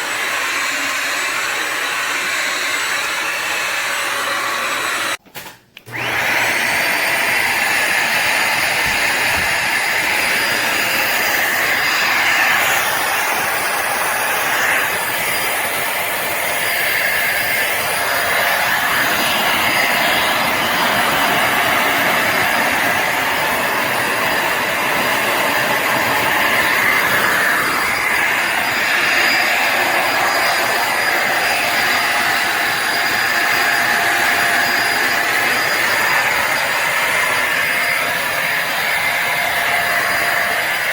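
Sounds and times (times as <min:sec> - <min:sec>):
vacuum motor drone with whine: 0:05.9 - 0:40.9.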